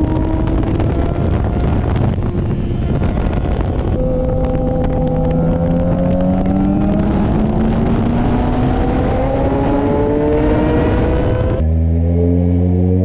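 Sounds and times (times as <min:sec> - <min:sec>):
wind noise: 0:00.0 - 0:11.8
motorcycle engine accelerating: 0:00.0 - 0:13.0.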